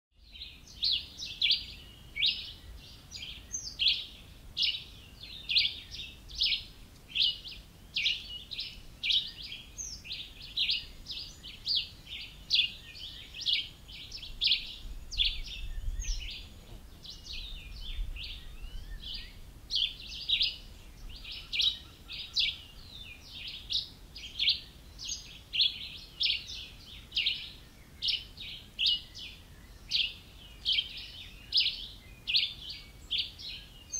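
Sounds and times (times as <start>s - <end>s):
high chirping calls: 0.7s - 33.9s.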